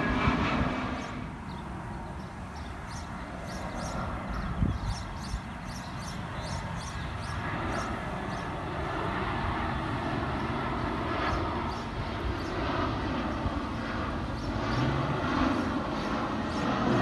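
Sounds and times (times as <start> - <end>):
jet airliner passing overhead: 0.0 - 17.0.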